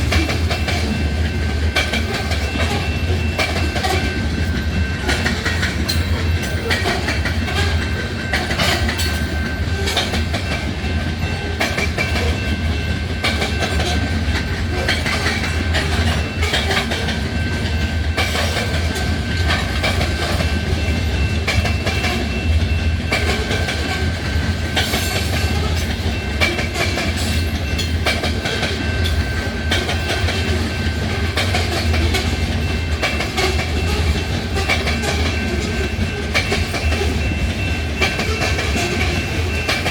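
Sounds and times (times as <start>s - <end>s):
freight train rumble: 0.0s - 39.9s
train wheels clicking over rail joints: 0.0s - 39.9s.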